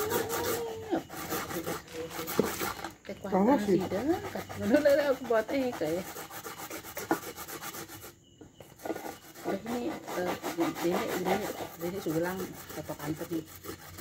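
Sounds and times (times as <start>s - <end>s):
coconut grating rasps: 0.0s - 14.0s.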